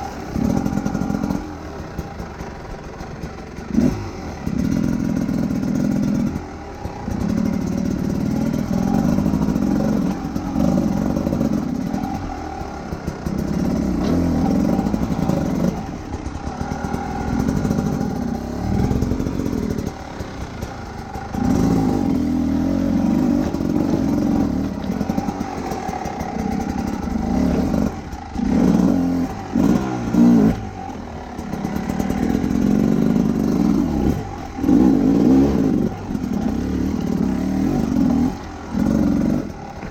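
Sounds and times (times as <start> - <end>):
motorcycle engine pulling under load: 0.0 - 39.9.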